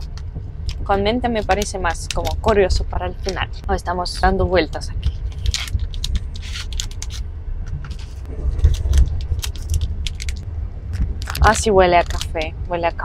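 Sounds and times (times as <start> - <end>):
moving train rumble: 0.0 - 13.0
wrapper crinkling: 1.4 - 7.2, 7.9 - 12.5.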